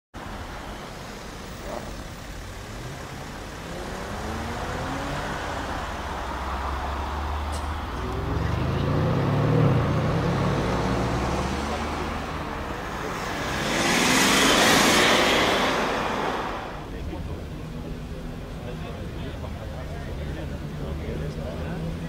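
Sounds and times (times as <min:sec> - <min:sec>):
car engine accelerating: 0:01.5 - 0:22.0.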